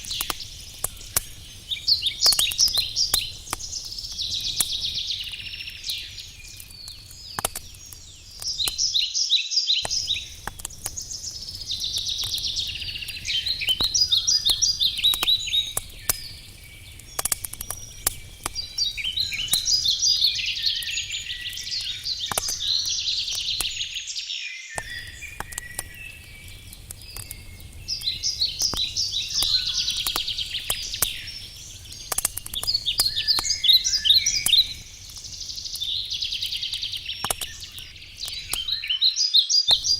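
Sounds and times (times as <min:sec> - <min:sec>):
campfire crackling: 0:00.0 - 0:24.2, 0:24.8 - 0:39.1, 0:39.7 - 0:39.9
songbirds trilling: 0:00.0 - 0:39.9.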